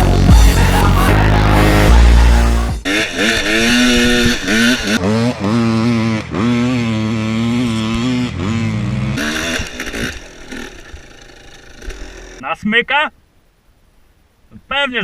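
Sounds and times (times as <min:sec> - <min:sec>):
dirt bike engine revving: 0:00.0 - 0:12.4.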